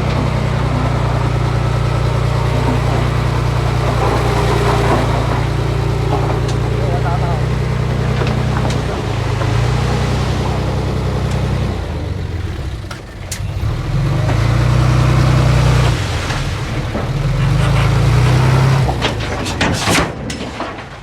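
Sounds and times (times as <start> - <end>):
diesel engine of construction machinery: 0.0 - 21.0.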